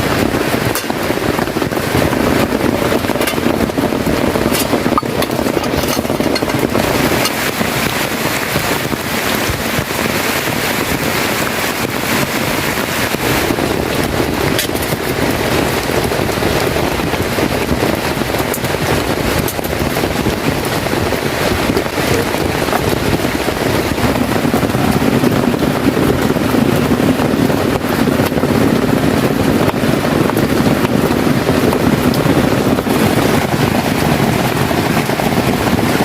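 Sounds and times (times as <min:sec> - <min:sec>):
heavy rain hiss: 0:00.0 - 0:36.0
sharp rain taps: 0:00.0 - 0:36.0.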